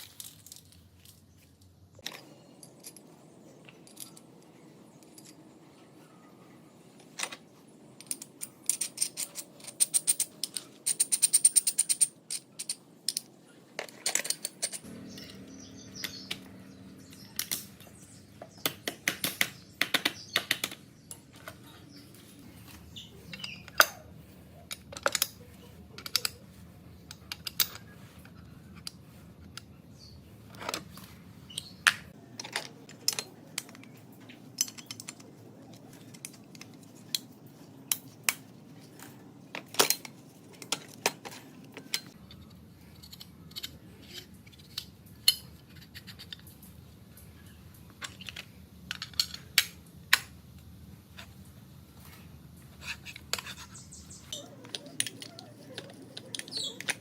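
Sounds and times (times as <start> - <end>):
metal parts and tools clinking: 0.0 - 6.0, 6.8 - 50.6, 52.6 - 57.0.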